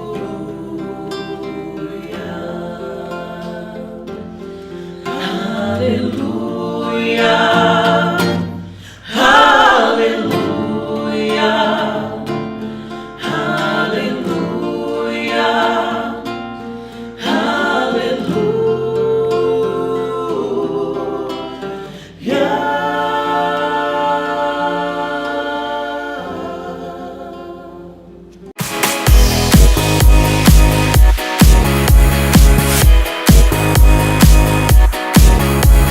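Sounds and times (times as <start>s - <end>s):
vocal trio singing gospel: 0.0s - 28.4s, 29.1s - 35.9s.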